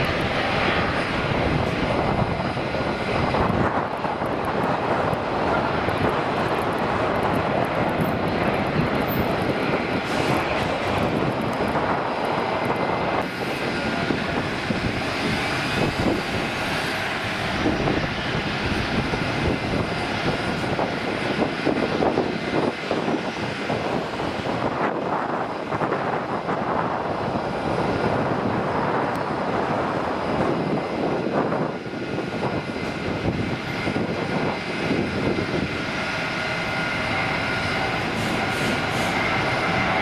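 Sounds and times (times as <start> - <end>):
airliner engine on runway: 0.0 - 40.0
jet engine noise: 0.0 - 40.0.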